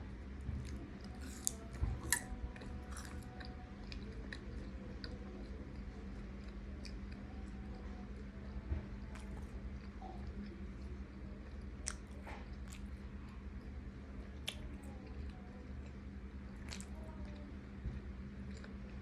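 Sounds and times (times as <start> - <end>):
chewing crunchy food: 0.4 - 19.0.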